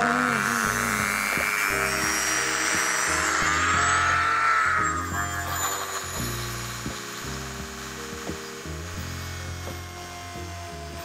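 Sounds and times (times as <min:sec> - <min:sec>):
background music: 0:00.0 - 0:11.0
rotary tool grinding metal: 0:00.0 - 0:11.0.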